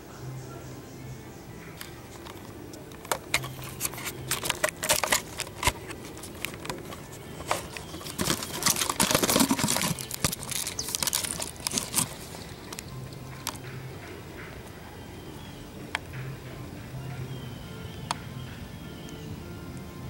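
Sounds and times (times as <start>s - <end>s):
dry leaves and twigs crackling: 1.6s - 19.3s.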